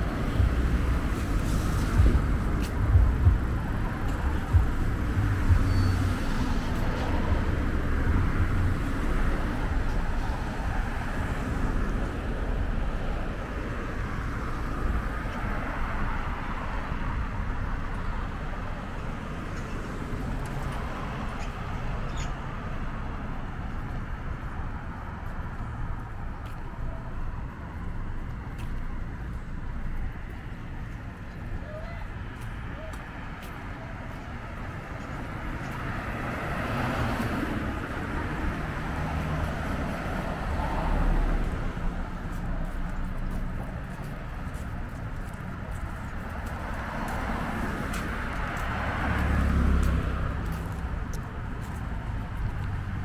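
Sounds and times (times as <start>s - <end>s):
vehicle rumble: 0.0s - 53.0s
wash of traffic: 0.0s - 53.0s.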